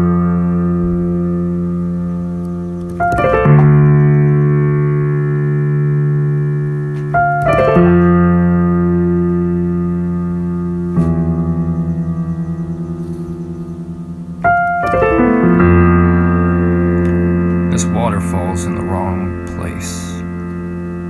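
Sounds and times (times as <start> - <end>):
rolled piano chords: 0.0 - 21.0.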